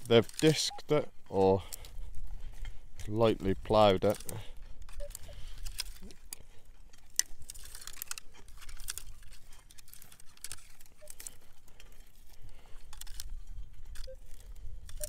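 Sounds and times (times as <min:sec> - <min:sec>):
straw stubble and soil crunching: 0:00.0 - 0:15.0.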